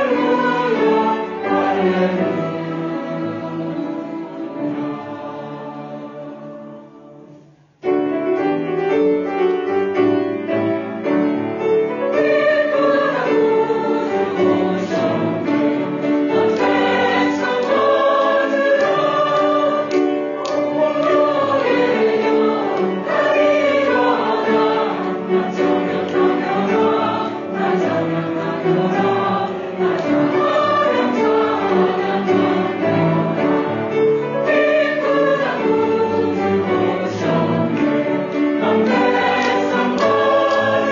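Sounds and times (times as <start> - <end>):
church choir singing: 0.0 - 9.0, 9.7 - 40.9
instrumental accompaniment: 0.0 - 40.9.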